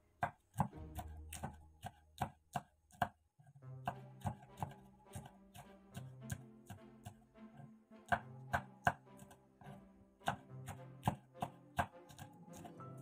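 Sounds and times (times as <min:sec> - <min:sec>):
faint background music: 0:00.0 - 0:13.0
knife chopping on wooden board: 0:00.2 - 0:13.0.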